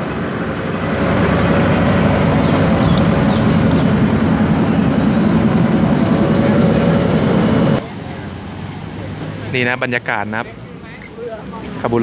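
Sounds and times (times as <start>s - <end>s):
train diesel engine idling: 0.0s - 12.0s.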